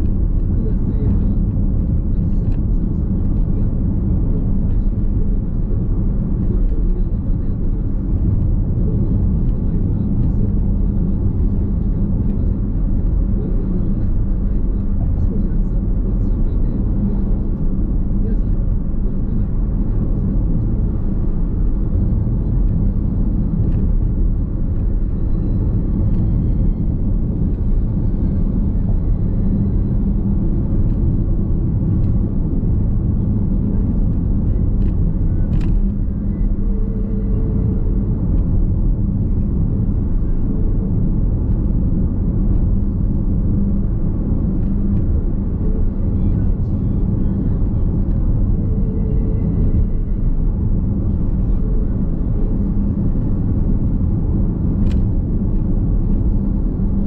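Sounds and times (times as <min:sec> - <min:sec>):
road and tyre rumble in car cabin: 0:00.0 - 0:57.0.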